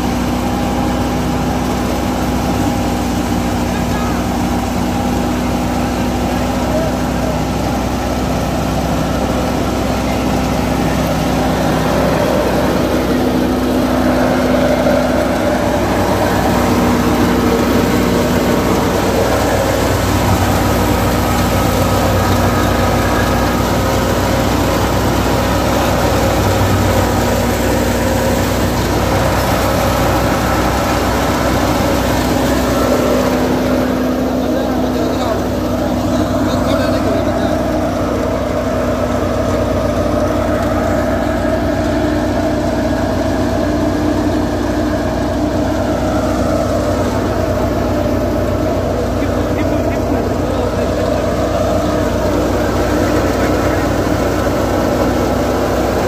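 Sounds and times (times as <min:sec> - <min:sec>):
thresher running: 0:00.0 - 0:56.0
tractor engine: 0:00.0 - 0:56.0.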